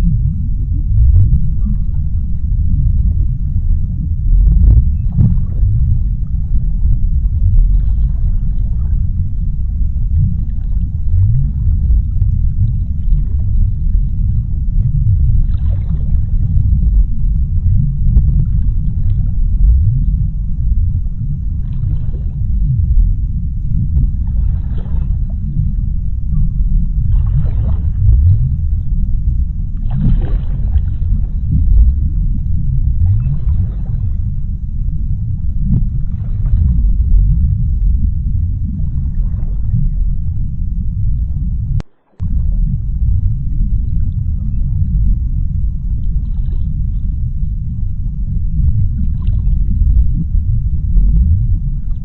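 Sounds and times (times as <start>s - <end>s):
deep underwater rumble: 0.0s - 52.0s
faint water swishes: 0.0s - 52.0s.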